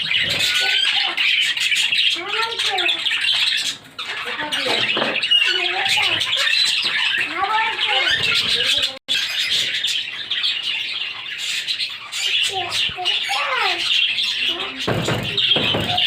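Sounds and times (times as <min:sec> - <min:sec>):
pet birds chirping and squawking: 0:00.0 - 0:16.0.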